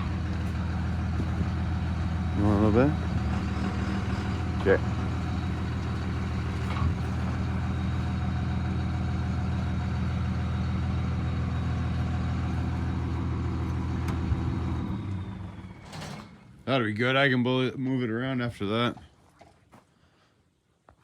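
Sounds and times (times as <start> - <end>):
truck engine idling: 0.0 - 17.3.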